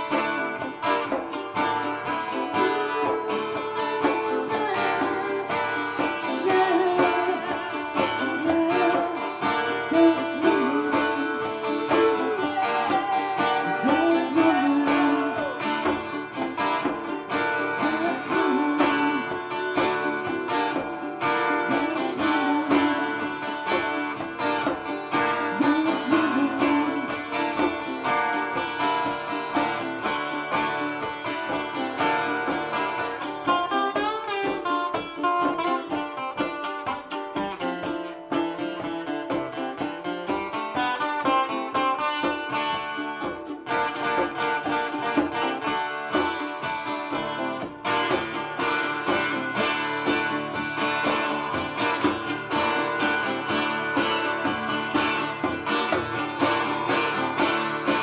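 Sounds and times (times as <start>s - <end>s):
acoustic guitar: 0.0s - 58.0s
hand drum: 0.0s - 58.0s.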